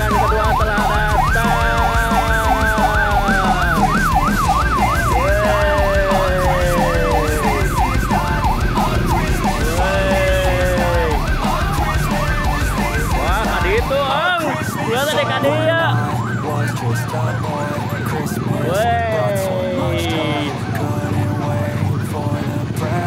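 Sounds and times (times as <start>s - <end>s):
siren wailing tone: 0.0s - 22.5s
police siren yelping: 0.0s - 23.0s.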